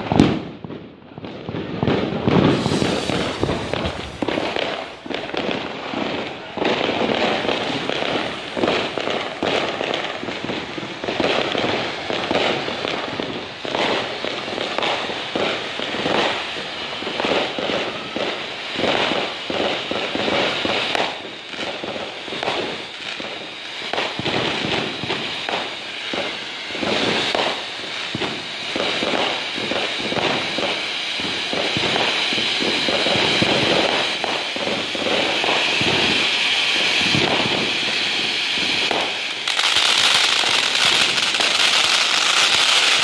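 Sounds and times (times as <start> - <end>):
firework fountain hissing: 0.0 - 43.0.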